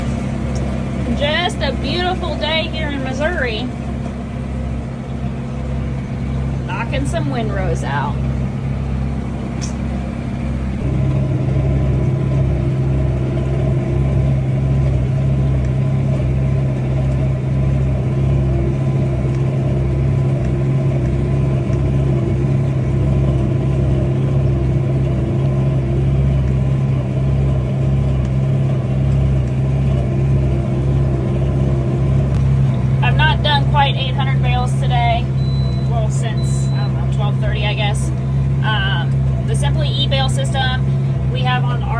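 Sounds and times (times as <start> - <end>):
baler low regular beat: 0.0 - 39.9
tractor engine running under load: 0.0 - 41.9.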